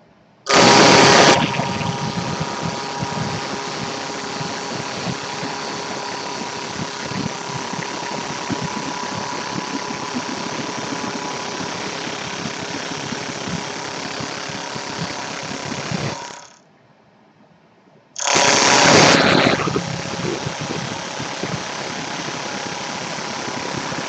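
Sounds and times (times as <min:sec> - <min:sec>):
lathe drive whine: 0:00.5 - 0:16.6, 0:18.2 - 0:24.0.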